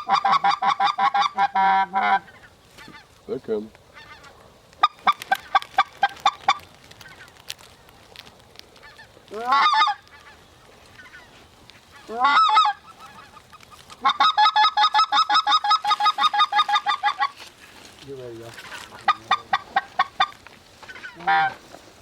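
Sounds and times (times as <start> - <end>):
goose clucking: 0.0 - 3.1, 3.9 - 7.3, 8.8 - 17.5, 18.4 - 21.7
goose honking: 0.0 - 3.1, 3.9 - 7.2, 8.8 - 17.5, 18.5 - 21.6.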